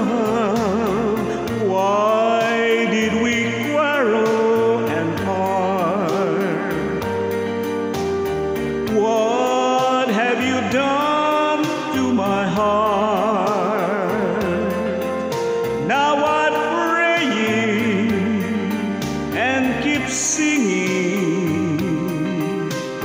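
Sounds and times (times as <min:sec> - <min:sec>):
man singing with vibrato: 0:00.0 - 0:07.6, 0:08.6 - 0:23.0
karaoke backing track: 0:00.0 - 0:23.0.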